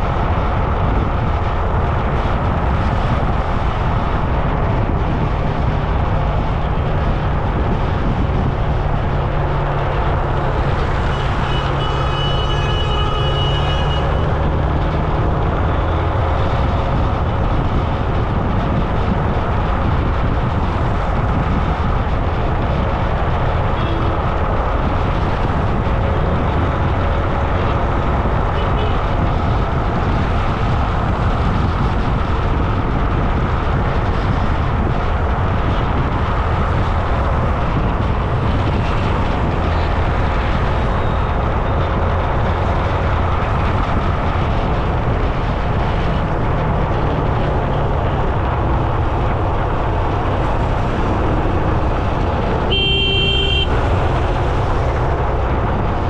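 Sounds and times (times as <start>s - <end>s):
road noise: 0.0s - 56.0s
wind rumbling on microphone: 0.0s - 56.0s.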